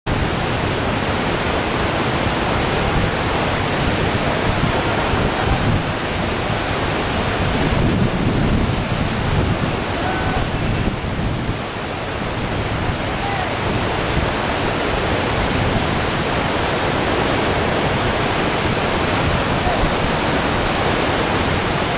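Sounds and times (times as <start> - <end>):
river rapid rushing: 0.1 - 21.9.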